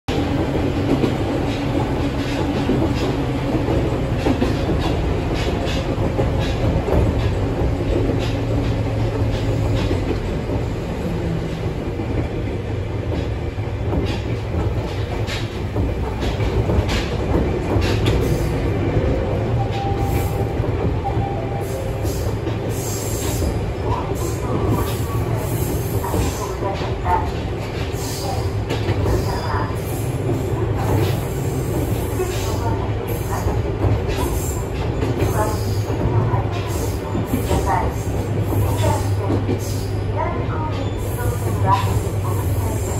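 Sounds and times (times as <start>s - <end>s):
rail clicks: 0.1s - 42.9s
train wheels rumbling: 0.1s - 42.9s.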